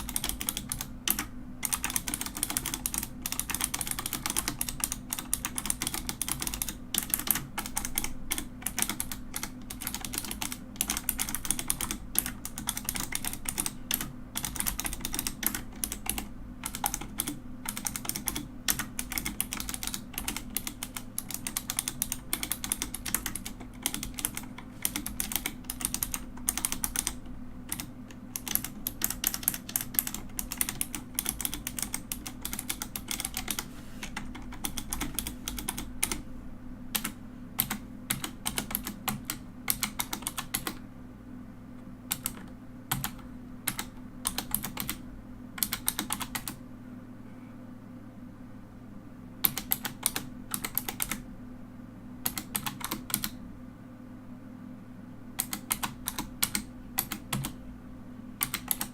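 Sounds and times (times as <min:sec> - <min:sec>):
mechanical keyboard typing: 0:00.0 - 0:36.3, 0:36.9 - 0:40.8, 0:42.1 - 0:45.0, 0:45.6 - 0:46.6, 0:49.4 - 0:51.3, 0:52.2 - 0:53.4, 0:55.4 - 0:57.6, 0:58.4 - 0:58.9.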